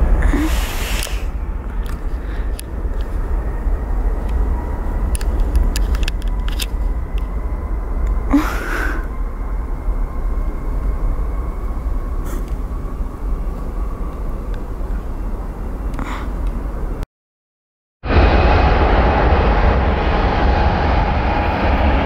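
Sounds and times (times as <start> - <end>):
distant jet engines rumbling: 0.0 - 17.0, 18.0 - 22.0.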